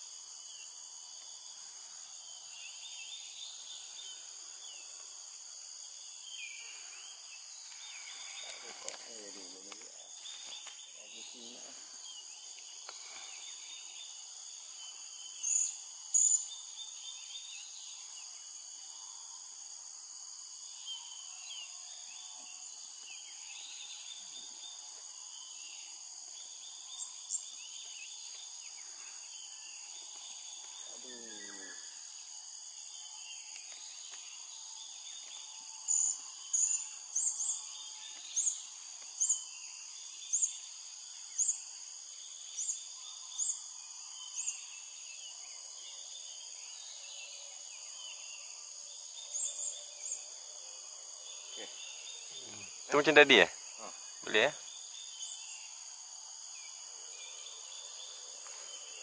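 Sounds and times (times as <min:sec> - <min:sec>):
high insect drone: 0:00.0 - 0:59.0
faint bird chatter: 0:01.6 - 0:18.4, 0:20.7 - 0:32.2, 0:33.0 - 0:50.3, 0:51.2 - 0:55.8.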